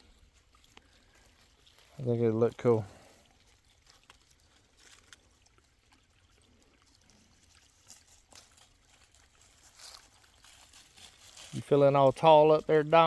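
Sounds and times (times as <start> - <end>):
faint creek trickling: 0.0 - 13.0.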